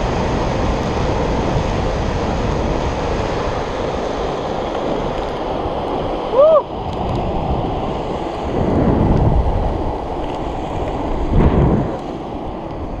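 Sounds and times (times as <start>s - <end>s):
skateboard wheels rolling on asphalt: 0.0s - 13.0s
wind buffeting microphone: 0.0s - 13.0s.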